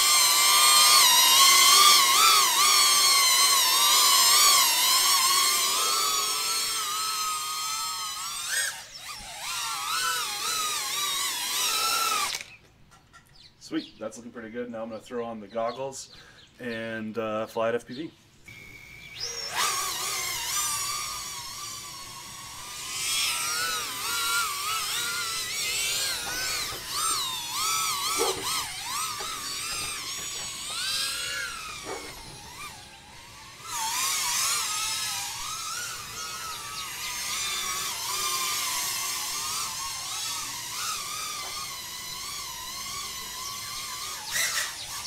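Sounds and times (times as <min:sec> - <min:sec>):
drone motors whining: 0:00.0 - 0:12.7, 0:18.4 - 0:45.0.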